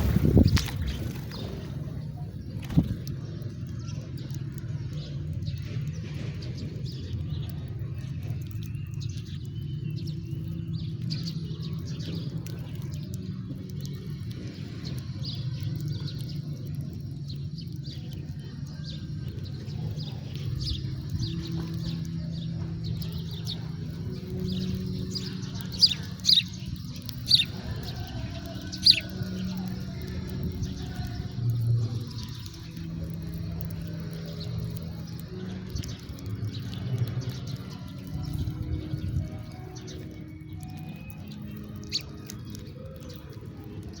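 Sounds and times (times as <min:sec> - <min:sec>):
steady low rumble: 0:00.0 - 0:39.8
sparrows chirping: 0:00.0 - 0:44.0.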